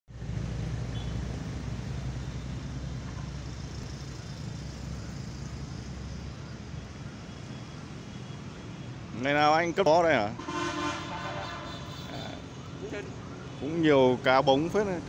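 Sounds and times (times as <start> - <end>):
city road traffic hum: 0.1 - 15.0.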